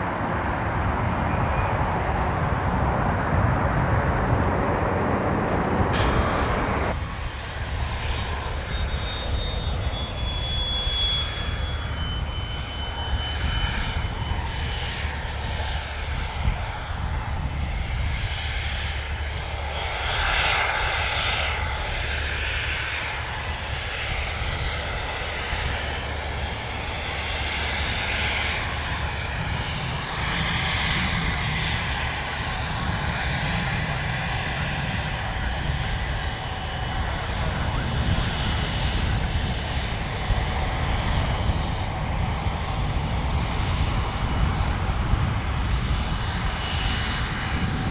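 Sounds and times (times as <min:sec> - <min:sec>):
aircraft engines rumbling: 0:00.0 - 0:47.9.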